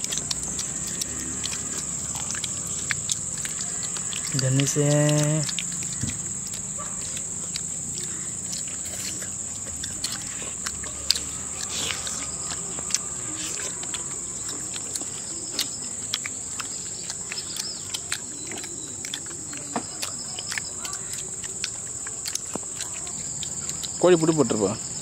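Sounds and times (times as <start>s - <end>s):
chewing clicks and smacks: 0.0s - 25.0s
insects droning: 0.0s - 25.0s.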